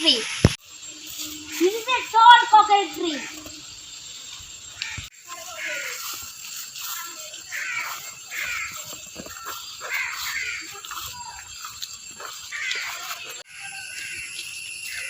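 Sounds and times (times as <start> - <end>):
high-pitched hiss: 0.0 - 15.0
harsh bird calls: 0.9 - 15.0.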